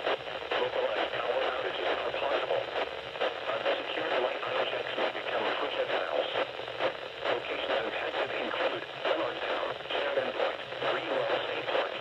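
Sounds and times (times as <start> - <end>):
low hum and hiss: 0.0 - 12.0
voice over a radio receiver: 0.5 - 6.4, 7.2 - 12.0.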